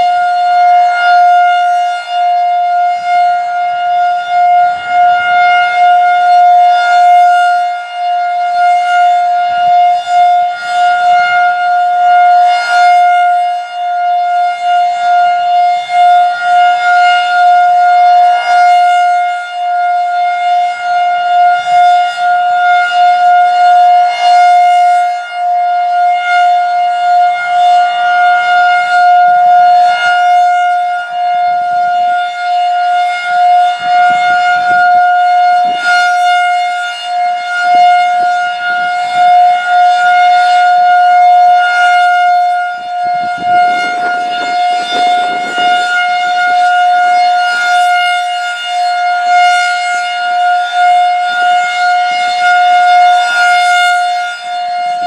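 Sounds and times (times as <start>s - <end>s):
tornado siren steady tone: 0.0s - 55.0s.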